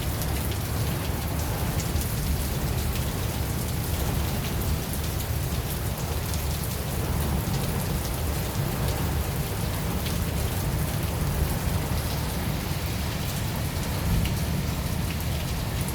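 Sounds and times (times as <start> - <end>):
rain hiss: 0.0 - 15.9.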